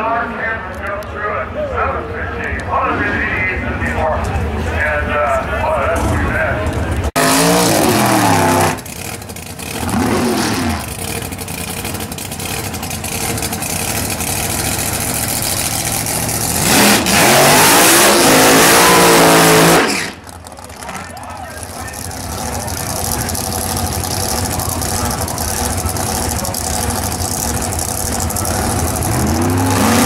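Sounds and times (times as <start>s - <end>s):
racing car engines revving: 1.9s - 30.0s
tyre burnout with high revs: 5.9s - 30.0s.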